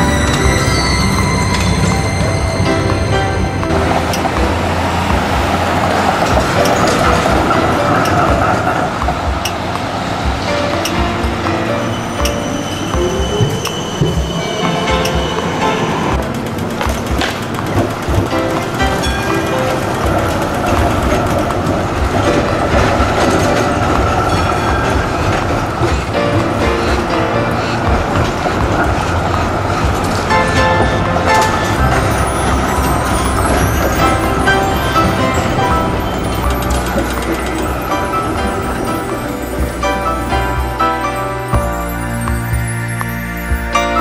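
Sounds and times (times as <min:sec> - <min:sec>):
rail clicks: 0:00.0 - 0:44.0
tram wheels rolling on rails: 0:00.0 - 0:44.0
wheel squeal: 0:00.0 - 0:44.0.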